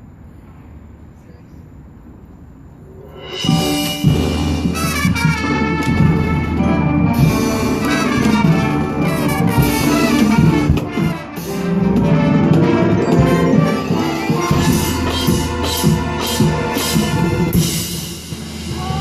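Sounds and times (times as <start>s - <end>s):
marching band playing: 2.9s - 19.0s.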